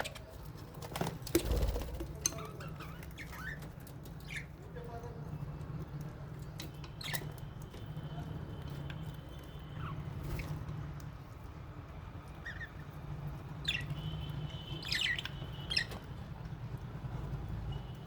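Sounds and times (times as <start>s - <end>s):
parrots chirping: 2.1s - 10.8s, 11.4s - 18.0s.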